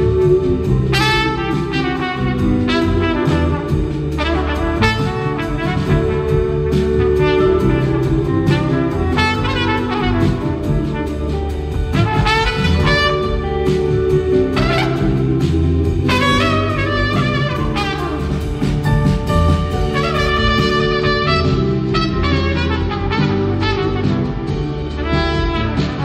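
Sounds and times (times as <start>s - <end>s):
live band bass and drums: 0.0s - 26.0s
trumpet solo: 0.0s - 26.0s.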